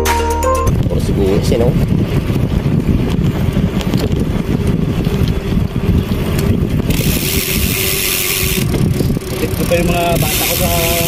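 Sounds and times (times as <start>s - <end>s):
road and engine noise: 0.0s - 11.0s
wind buffeting microphone: 0.7s - 11.0s.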